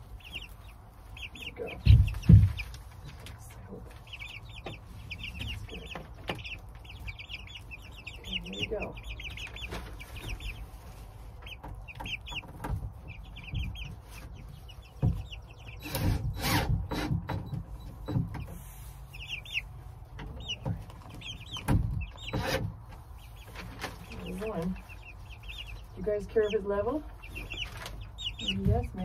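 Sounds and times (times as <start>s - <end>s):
high chirping calls: 0.0s - 3.0s, 3.9s - 16.5s, 17.3s - 29.0s
chickens clucking: 0.0s - 29.0s.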